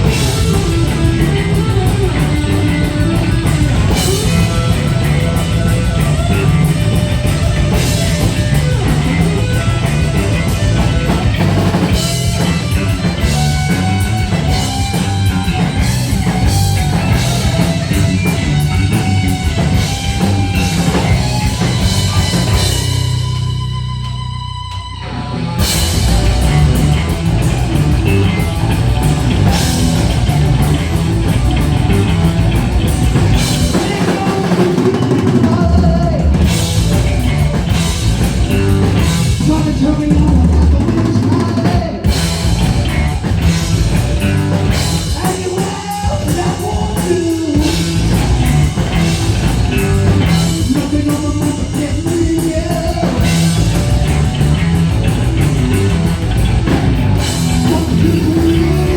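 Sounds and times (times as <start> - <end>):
bass guitar: 0.0 - 58.9
distorted electric guitars: 0.0 - 58.9
pounding drum kit: 0.0 - 58.9.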